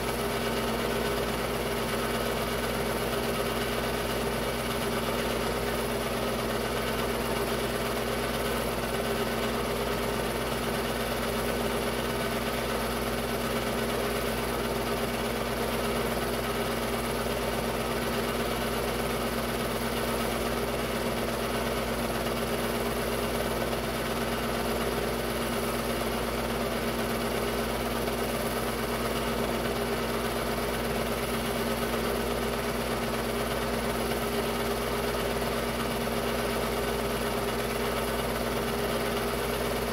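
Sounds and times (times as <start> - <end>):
film projector mechanical drone: 0.0 - 39.9.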